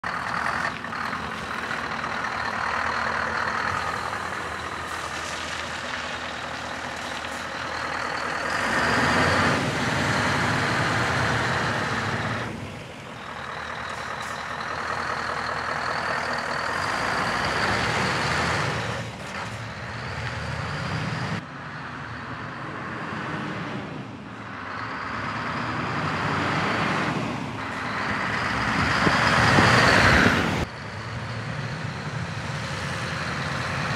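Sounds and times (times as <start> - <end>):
diesel truck engine revving: 0.0 - 33.9.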